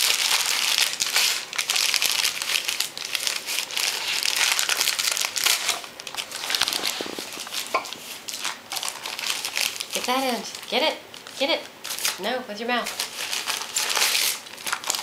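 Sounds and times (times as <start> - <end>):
wrapping paper crinkling: 0.0 - 12.2, 12.8 - 15.0.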